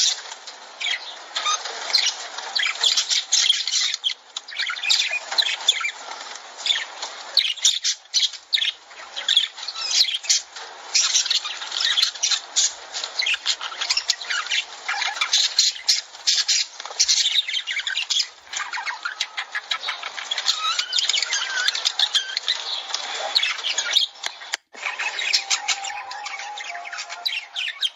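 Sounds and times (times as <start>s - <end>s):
lovebirds squawking and chirping: 0.0s - 27.9s.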